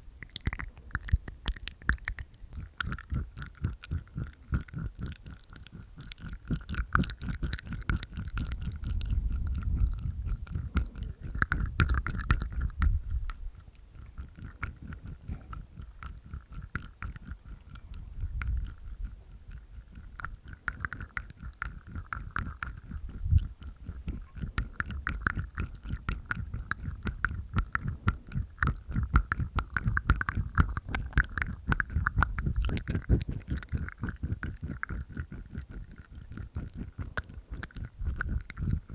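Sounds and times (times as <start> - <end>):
teeth sounds: 0.0 - 38.9
wet tongue clicks: 0.0 - 38.9.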